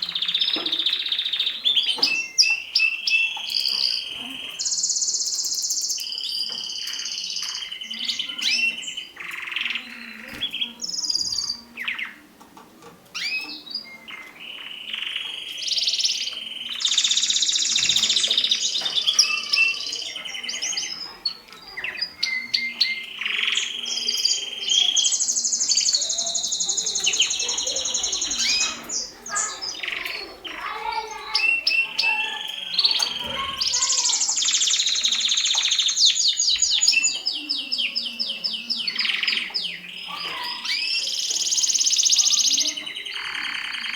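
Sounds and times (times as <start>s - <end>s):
canaries singing trills: 0.0s - 43.9s.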